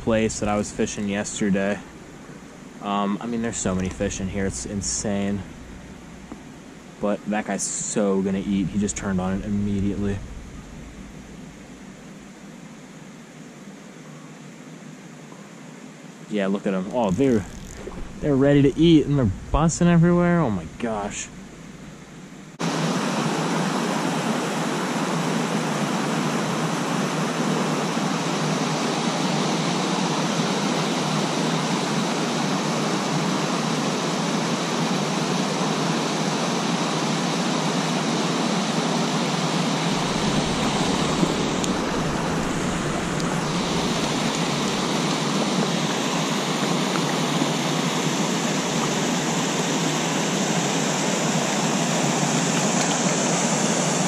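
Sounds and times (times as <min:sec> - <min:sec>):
creek water rushing: 0:00.0 - 0:13.9, 0:16.3 - 0:54.0.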